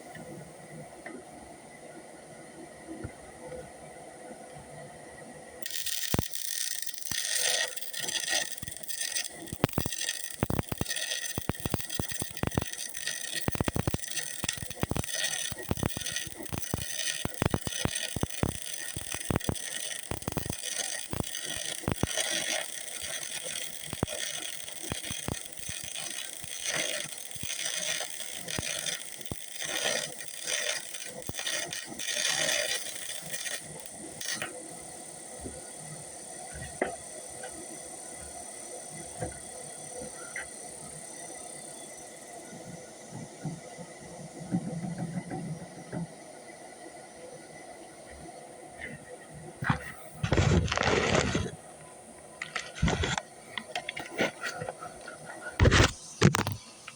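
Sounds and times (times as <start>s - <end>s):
arc welding crackling hiss: 5.6s - 56.9s.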